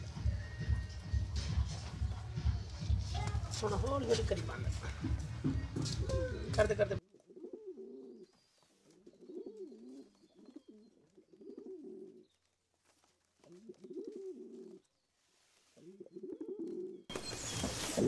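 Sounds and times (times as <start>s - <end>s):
pigeons cooing: 0.0s - 12.4s, 13.4s - 14.9s, 15.8s - 18.0s.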